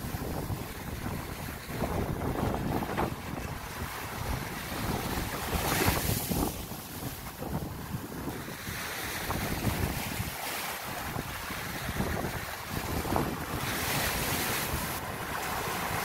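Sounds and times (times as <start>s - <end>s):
small waves washing over sand: 0.0s - 16.0s
wind rumbling on microphone: 0.0s - 16.0s.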